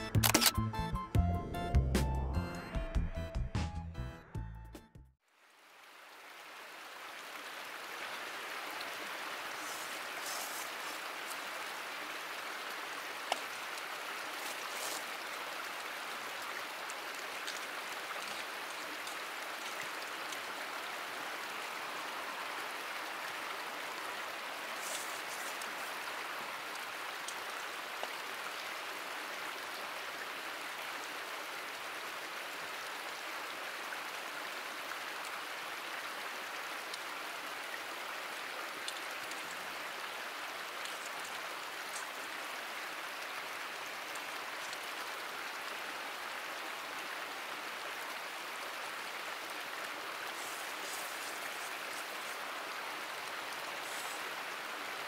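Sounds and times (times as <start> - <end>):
mountain stream rushing: 5.4 - 55.0.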